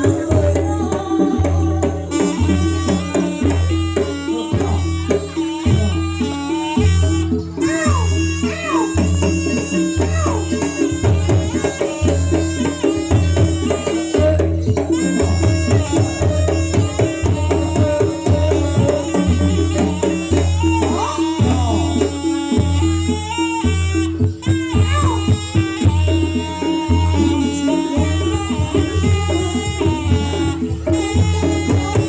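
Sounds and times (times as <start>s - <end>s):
drums and percussion: 0.0s - 32.0s
sliding melody line: 0.0s - 32.0s.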